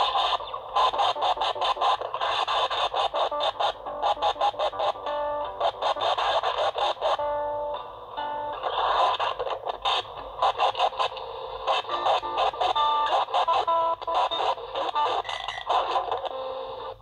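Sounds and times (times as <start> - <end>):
spliced tape music fragments: 0.0 - 17.0.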